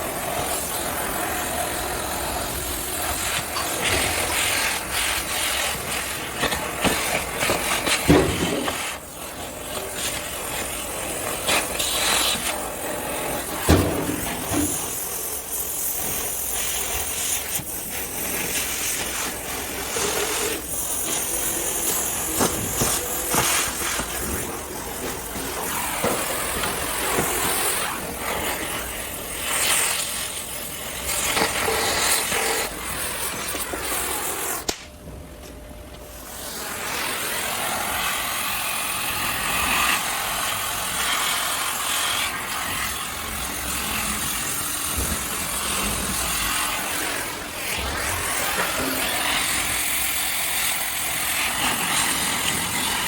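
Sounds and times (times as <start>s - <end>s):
hissing workshop noise: 0.0s - 53.0s.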